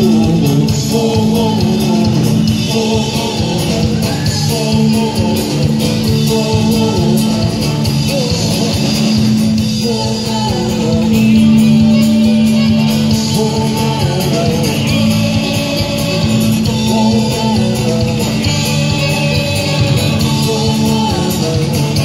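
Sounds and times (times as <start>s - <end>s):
acoustic and electric guitars: 0.0s - 22.0s
drums: 0.0s - 22.0s.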